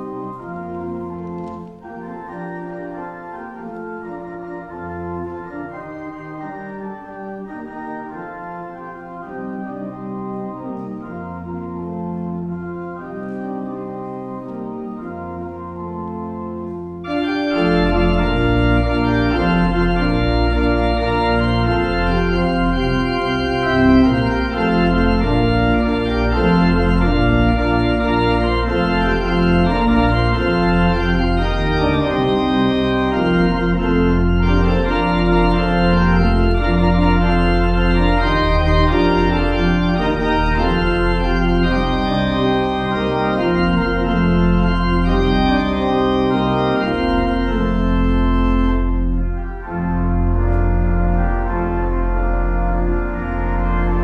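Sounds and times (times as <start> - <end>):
church organ chords: 0.0 - 54.0.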